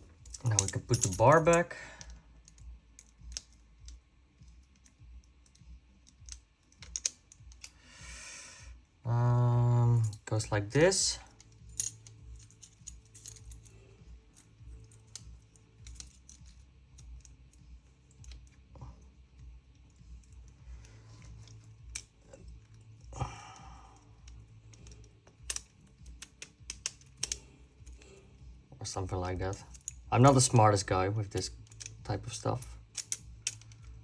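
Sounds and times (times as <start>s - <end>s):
small parts clicking and tapping: 0.0s - 7.8s, 11.2s - 34.0s.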